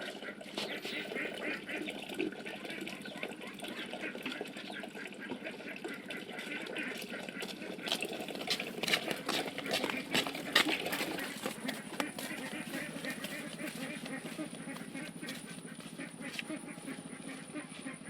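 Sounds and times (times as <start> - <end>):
water splashing and trickling: 0.0 - 17.5.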